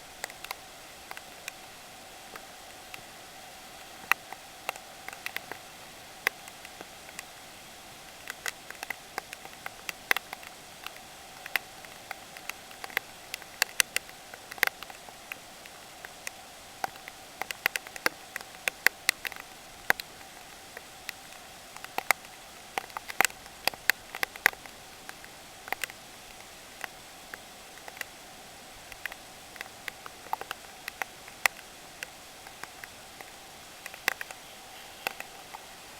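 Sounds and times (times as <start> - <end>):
raindrops ticking on hard surface: 0.0 - 35.9
steady hiss: 0.0 - 35.9.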